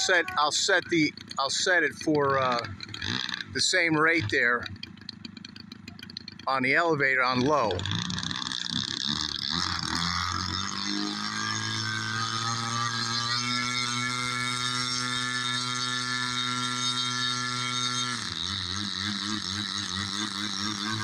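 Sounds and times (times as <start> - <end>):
model plane motor and propeller: 0.0 - 21.0.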